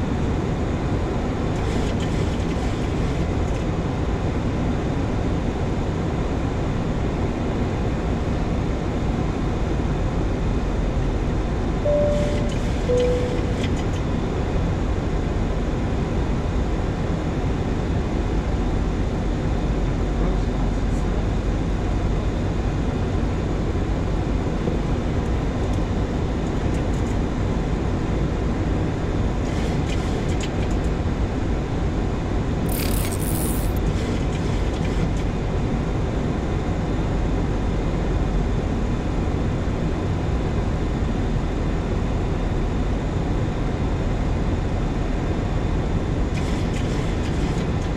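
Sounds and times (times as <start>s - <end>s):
rushing cockpit noise in flight: 0.0s - 47.9s.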